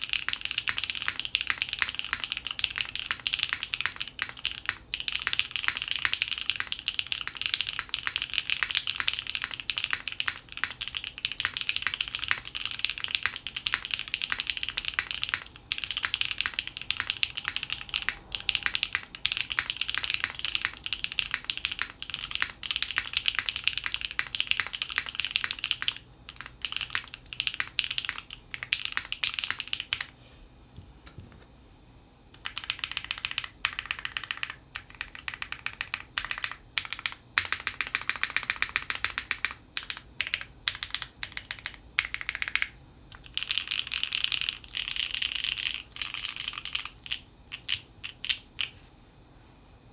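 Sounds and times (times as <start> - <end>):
typing on mechanical keyboard: 0.0 - 30.1, 32.4 - 48.7.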